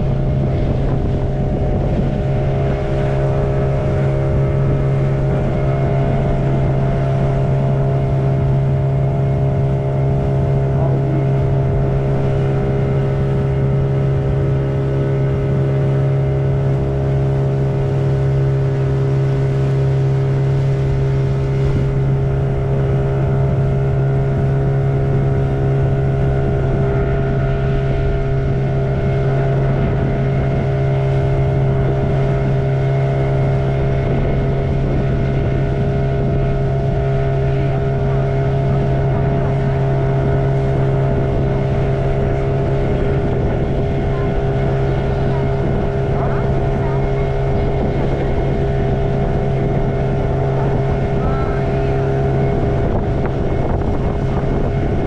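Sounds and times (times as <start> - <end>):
motorboat engine humming: 0.0 - 55.0.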